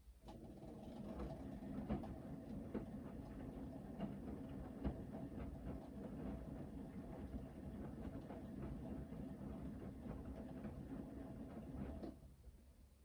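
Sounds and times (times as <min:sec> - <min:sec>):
washing machine motor rumble: 0:00.2 - 0:12.3.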